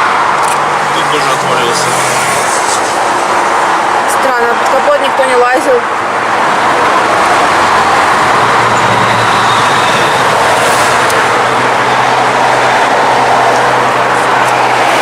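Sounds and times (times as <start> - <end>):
heavy vehicle engine hum: 0.0 - 15.0
highway traffic passing: 0.0 - 15.0.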